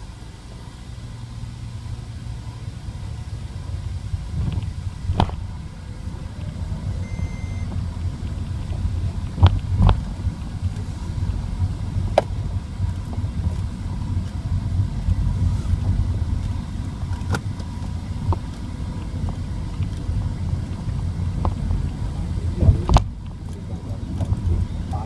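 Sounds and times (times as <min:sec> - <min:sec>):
car rumbling: 0:00.0 - 0:25.0.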